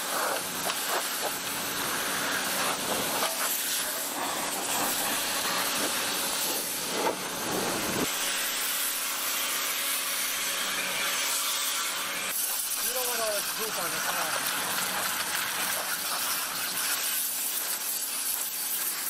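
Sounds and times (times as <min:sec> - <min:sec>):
pressure washer spraying metal: 0:00.0 - 0:19.0.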